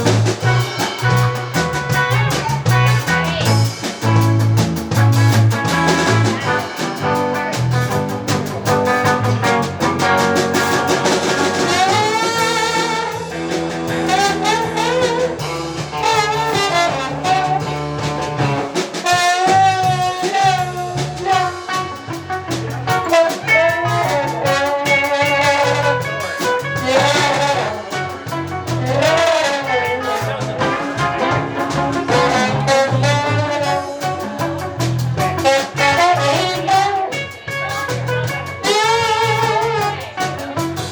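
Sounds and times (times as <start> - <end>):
drum beat: 0.0 - 40.9
steady bass: 0.0 - 40.9.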